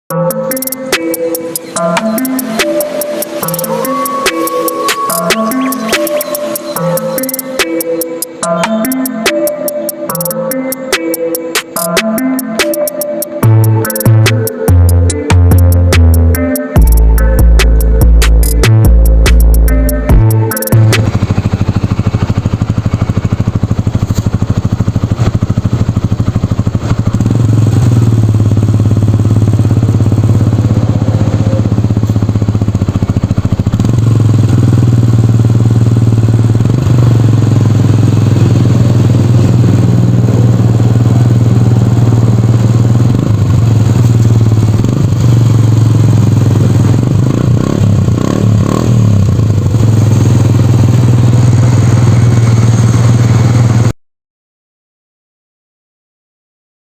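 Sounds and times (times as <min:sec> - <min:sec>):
single-cylinder engine running: 0:00.1 - 0:54.0.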